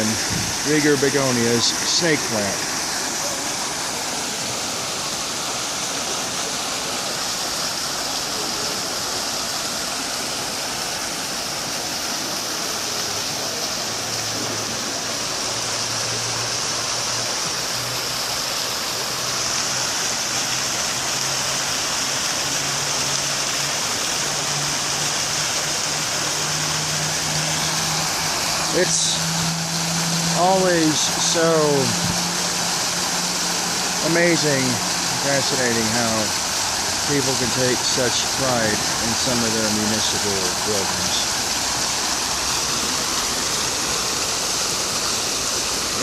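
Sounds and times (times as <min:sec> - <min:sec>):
fountain water splashing: 0:00.0 - 0:46.0.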